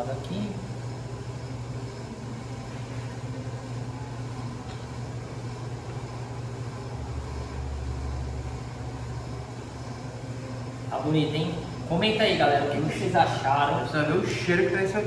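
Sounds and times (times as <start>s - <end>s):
deeper hum: 0.0s - 15.0s
kitchen machinery hum: 0.0s - 15.0s.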